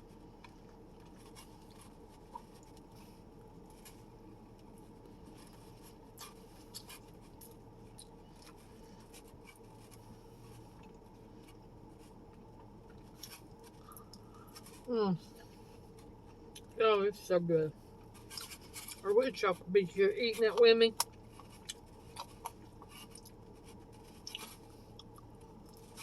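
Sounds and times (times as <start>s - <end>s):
faint steady hum: 0.0s - 26.0s
person chewing food: 0.1s - 16.8s, 17.9s - 19.0s, 20.9s - 26.0s.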